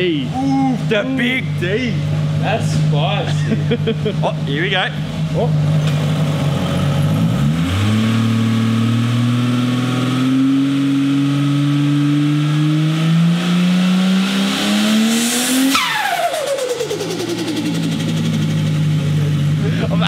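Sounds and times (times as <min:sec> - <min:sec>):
car engine revving high: 0:00.0 - 0:20.0.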